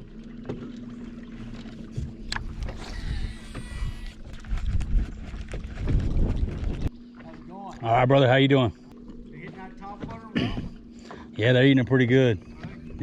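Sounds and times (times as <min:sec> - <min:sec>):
boat motor humming: 0:00.0 - 0:13.0
wind and water rumble: 0:00.0 - 0:13.0.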